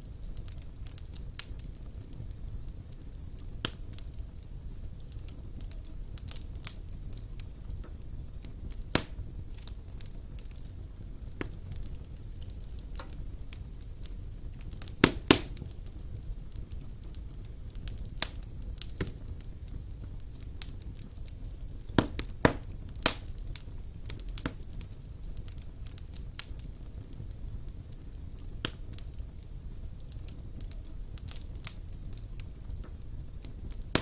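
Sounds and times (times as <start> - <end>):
fire rumbling: 0.0 - 34.0
logs crackling and popping: 0.0 - 34.0.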